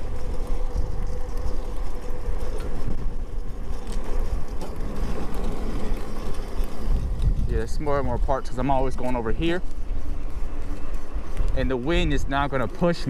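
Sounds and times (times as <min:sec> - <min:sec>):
faint motor whine: 0:00.0 - 0:13.0
wind buffeting microphone: 0:00.0 - 0:13.0.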